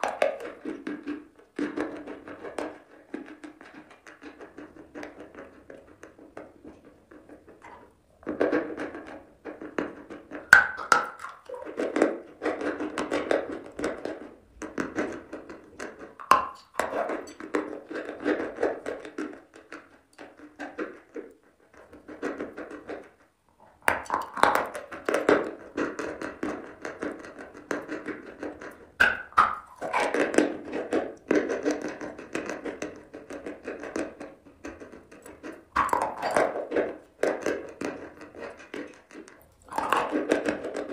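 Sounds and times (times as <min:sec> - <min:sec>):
chalk crunching and chewing: 0:00.0 - 0:40.9.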